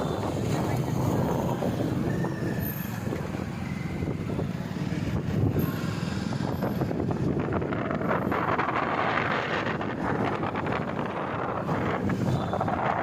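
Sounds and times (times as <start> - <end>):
vehicle and road noise: 0.0 - 13.0
wind buffeting microphone: 0.0 - 13.0.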